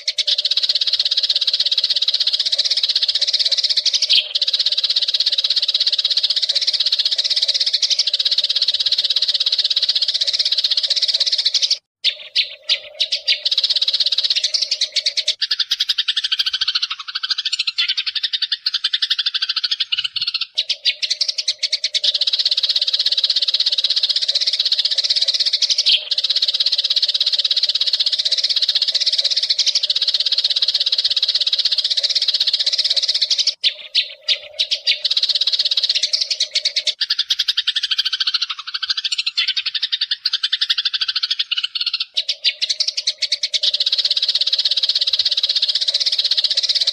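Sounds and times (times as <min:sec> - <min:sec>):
sparrows chirping and chattering: 0:00.0 - 0:46.9.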